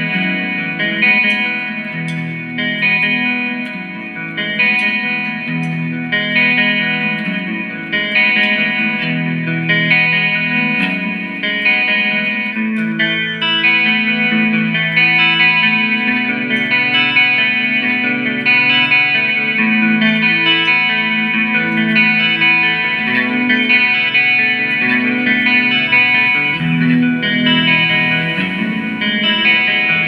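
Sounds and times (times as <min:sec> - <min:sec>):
guitar music with effects: 0:00.0 - 0:30.0.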